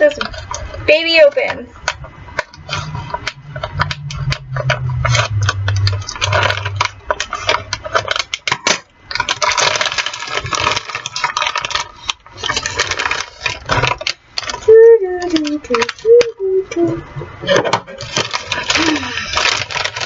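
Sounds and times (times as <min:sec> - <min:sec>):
plastic pouch crinkling: 0:00.0 - 0:16.4, 0:18.0 - 0:20.0
low hum: 0:00.0 - 0:20.0.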